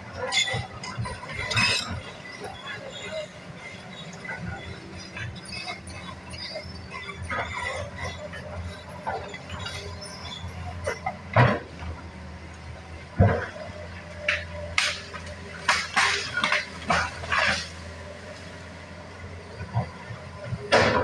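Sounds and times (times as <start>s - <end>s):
excavator engine hum: 0.0s - 21.0s
excavator knocks and clanks: 0.0s - 21.0s.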